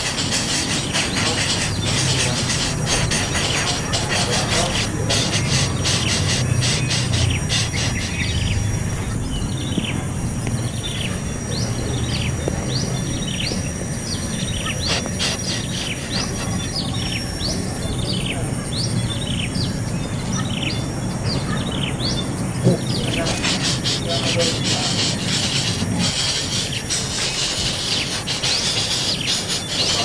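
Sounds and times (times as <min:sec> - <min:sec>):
low background rumble: 0:00.0 - 0:29.0
high insect whine: 0:00.0 - 0:30.0
small bird chirping: 0:00.0 - 0:30.0.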